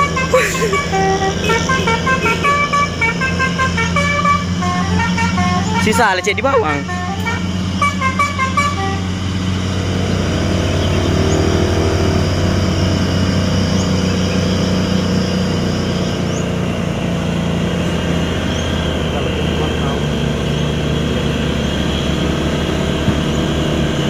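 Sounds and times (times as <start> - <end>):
truck diesel engine under load: 0.0 - 24.0.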